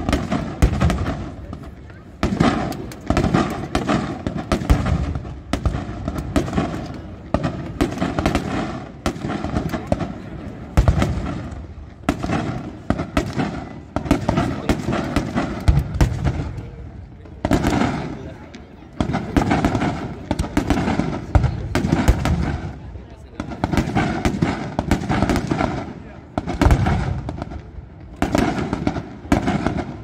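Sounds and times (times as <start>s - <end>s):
fireworks bursting with crackle: 0.0s - 30.0s.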